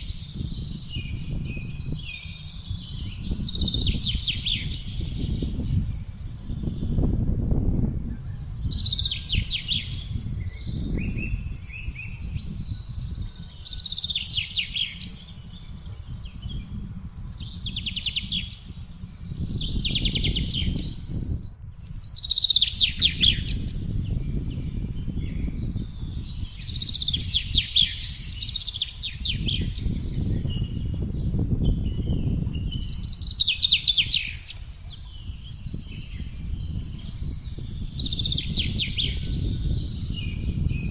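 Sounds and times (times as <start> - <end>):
songbird trilling: 0.0 - 40.9
wind rumbling and gusting: 0.0 - 40.9.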